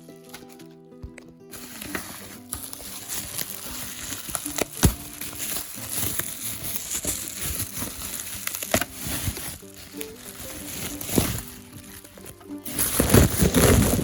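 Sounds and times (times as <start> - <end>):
faint tune: 0.0 - 14.0
packaging crinkling and rustling: 0.0 - 14.0.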